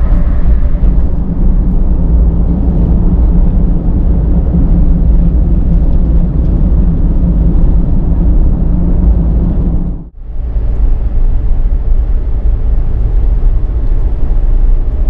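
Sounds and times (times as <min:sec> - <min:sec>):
road noise inside cabin: 0:00.0 - 0:15.0
van engine rumble: 0:00.0 - 0:15.0.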